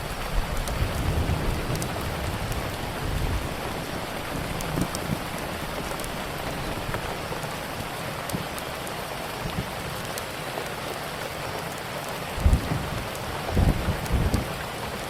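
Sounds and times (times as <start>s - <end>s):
steady rain falling: 0.0s - 15.0s
wood fire crackling: 0.0s - 15.0s.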